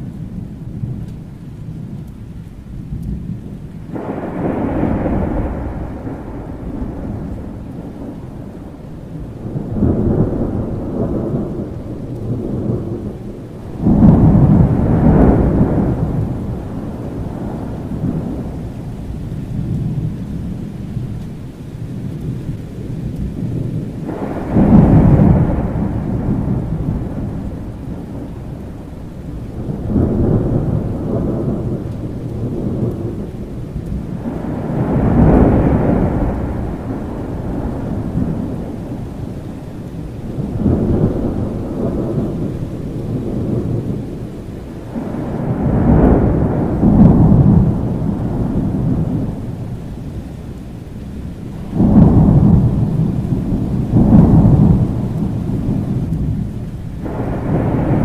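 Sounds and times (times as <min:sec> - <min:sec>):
rolling thunder: 0:00.0 - 0:58.0
steady rain: 0:00.0 - 0:58.0.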